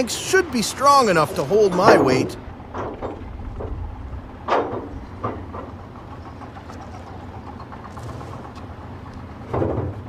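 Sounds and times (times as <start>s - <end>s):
diesel truck engine idling: 0.0s - 10.0s
planks clunking: 0.0s - 10.0s.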